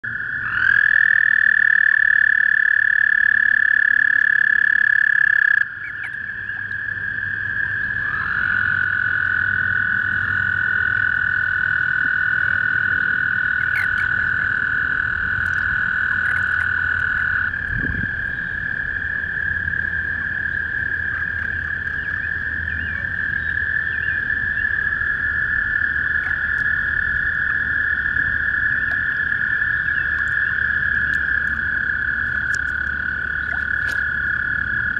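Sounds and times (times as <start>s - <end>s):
toads trilling: 0.1s - 34.9s.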